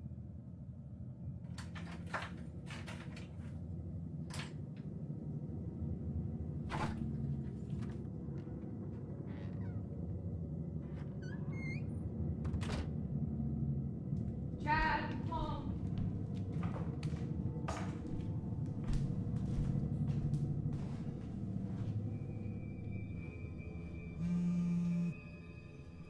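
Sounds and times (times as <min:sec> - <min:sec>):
low rumbling drone: 0:03.6 - 0:26.0.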